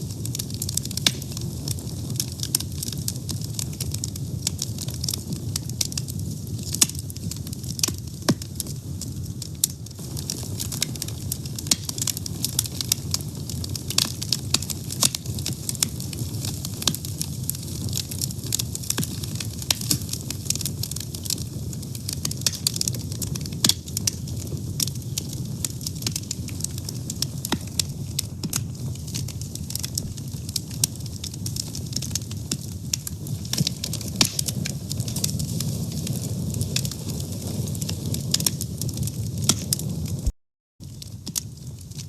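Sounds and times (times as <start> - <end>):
fire crackling and popping: 0.0 - 42.0
wood fire rumbling: 0.0 - 42.0.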